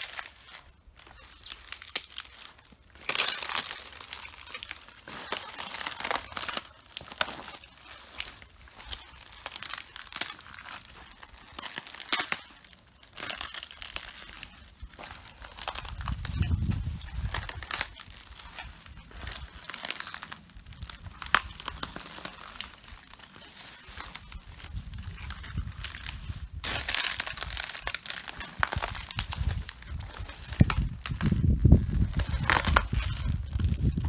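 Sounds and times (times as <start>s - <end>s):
footsteps crunching on leaves: 0.0s - 34.0s.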